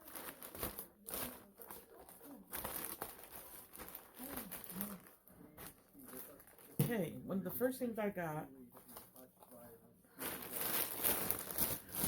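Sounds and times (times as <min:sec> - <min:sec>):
plastic packaging crinkling: 0:00.0 - 0:06.8, 0:08.8 - 0:12.0.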